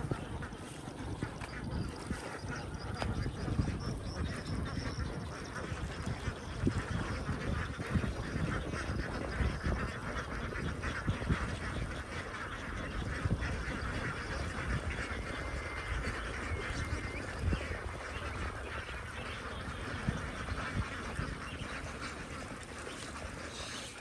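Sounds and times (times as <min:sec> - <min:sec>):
ducks quacking: 0:00.0 - 0:24.0.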